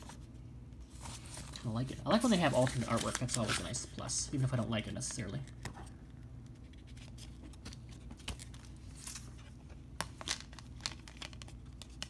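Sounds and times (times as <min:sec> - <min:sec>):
paper sleeve rustling: 0:00.0 - 0:05.3, 0:06.6 - 0:12.0.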